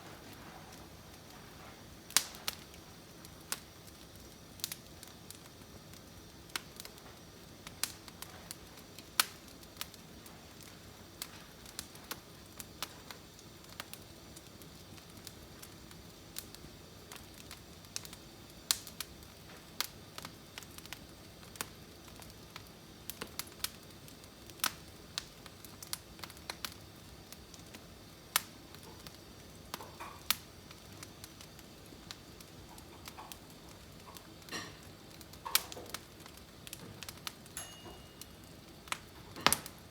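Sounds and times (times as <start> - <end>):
firewood crackling and popping: 0.0 - 39.9
low steady hiss: 0.0 - 39.9.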